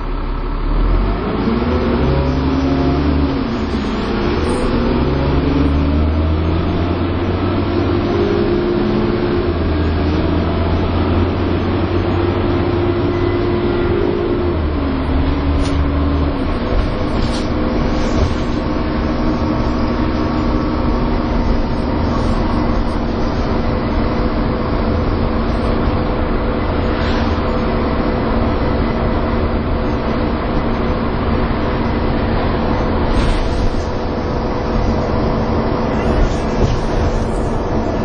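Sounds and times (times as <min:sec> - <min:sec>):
bus drivetrain whine: 0:00.0 - 0:38.0
bus engine rumble: 0:00.0 - 0:38.0.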